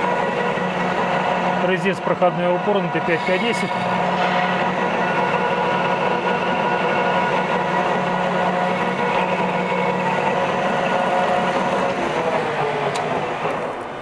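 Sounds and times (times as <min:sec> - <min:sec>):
metal lathe whining: 0:00.0 - 0:14.0.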